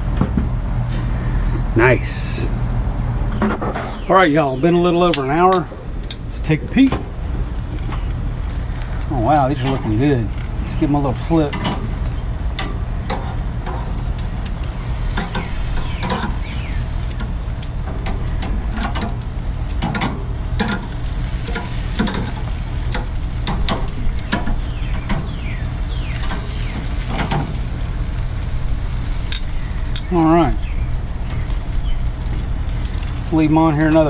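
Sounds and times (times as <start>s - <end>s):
low fan hum: 0.0s - 34.0s
meat sizzling: 6.0s - 33.5s.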